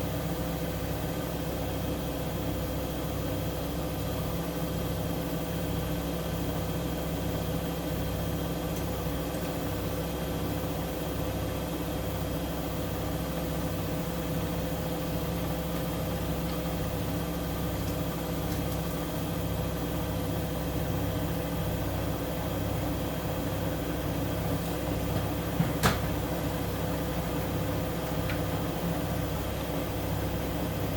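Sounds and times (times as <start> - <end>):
washing machine running: 0.0 - 30.9.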